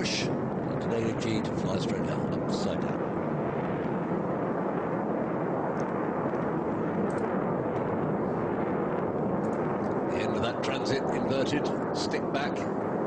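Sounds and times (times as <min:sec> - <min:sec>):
jet engine rumble: 0:00.0 - 0:13.0.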